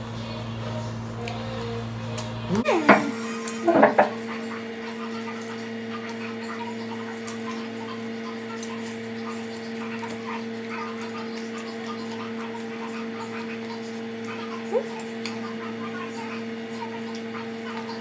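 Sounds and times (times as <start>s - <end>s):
two-tone hum: 0.0s - 18.0s.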